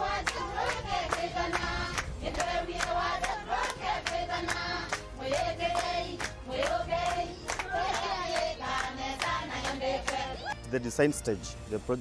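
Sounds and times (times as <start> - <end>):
group of voices singing: 0.0 - 10.6
rhythmic hand clapping: 0.0 - 10.6.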